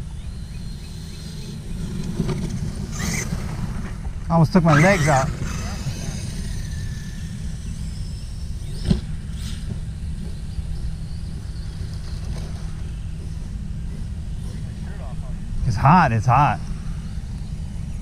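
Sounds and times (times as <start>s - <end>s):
rc car motor whine: 0.0s - 18.0s.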